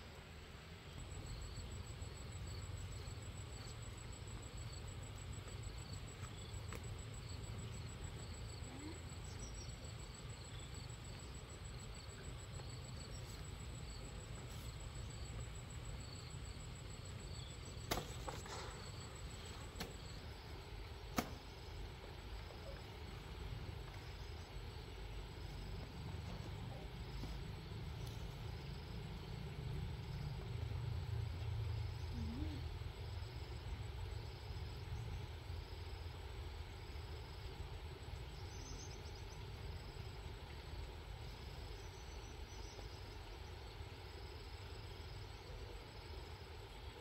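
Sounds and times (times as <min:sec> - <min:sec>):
crickets trilling: 0:00.4 - 0:47.0.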